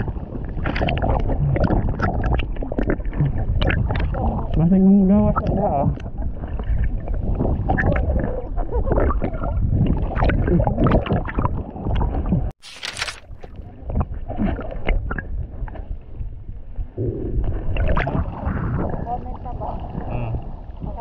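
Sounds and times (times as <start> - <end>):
muffled underwater sloshing: 0.0 - 12.6, 13.2 - 21.0.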